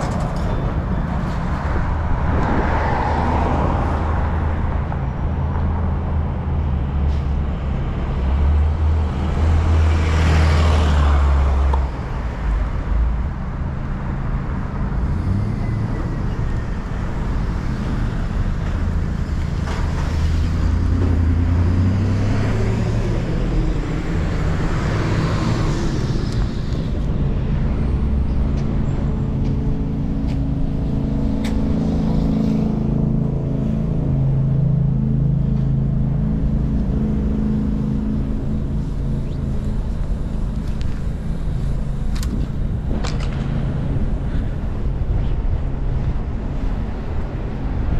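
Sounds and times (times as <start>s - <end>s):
traffic engines humming: 0.0s - 47.9s
vehicles passing close by: 0.0s - 47.9s.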